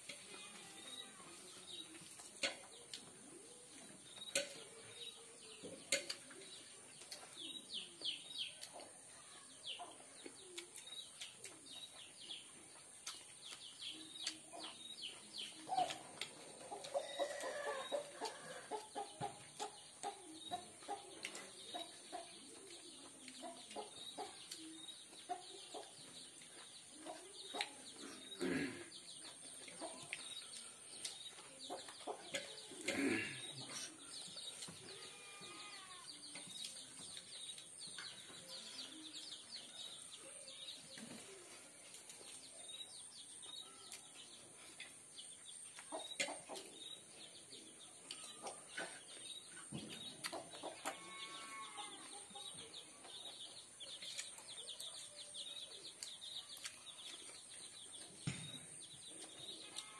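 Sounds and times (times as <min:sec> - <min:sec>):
chickens clucking: 0:00.0 - 0:35.3, 0:36.3 - 0:58.4
small birds chirping: 0:00.0 - 0:59.9.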